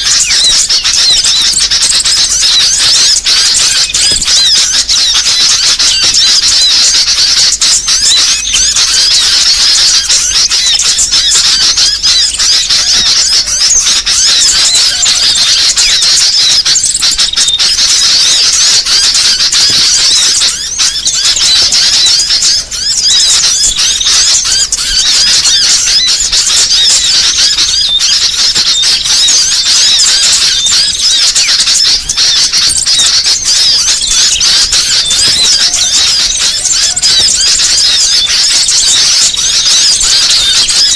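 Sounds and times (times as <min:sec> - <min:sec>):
many small songbirds chattering: 0:00.0 - 0:40.9.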